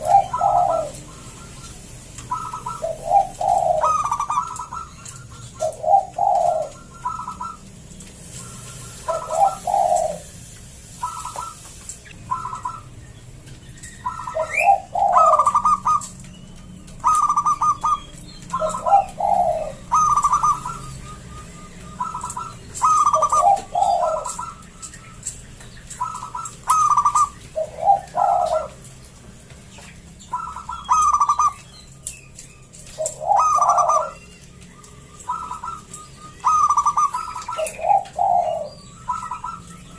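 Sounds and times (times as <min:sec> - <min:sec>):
dove cooing: 0:00.0 - 0:13.0, 0:13.8 - 0:29.1, 0:29.8 - 0:39.9
small birds chirping faintly: 0:00.0 - 0:39.9.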